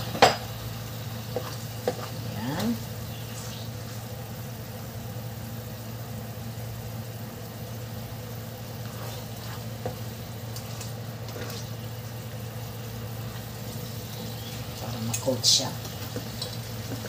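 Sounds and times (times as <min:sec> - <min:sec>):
sauce sizzling in a pan: 0:00.0 - 0:17.0.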